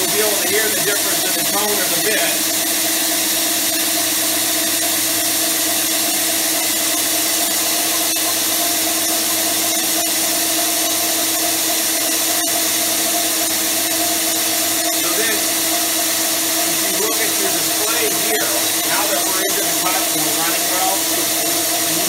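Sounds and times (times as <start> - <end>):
core drill cutting stone: 0.0 - 22.0.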